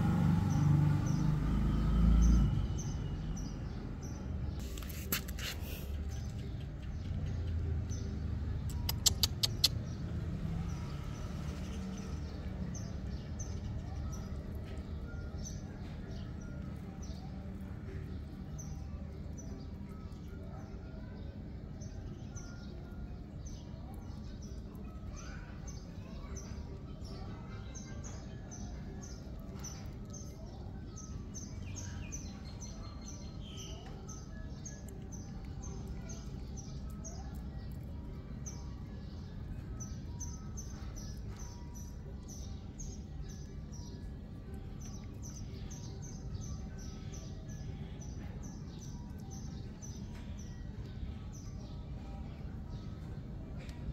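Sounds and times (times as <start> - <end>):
low outdoor rumble: 0.0 - 4.8, 5.6 - 53.9
small birds chirping: 0.0 - 53.9.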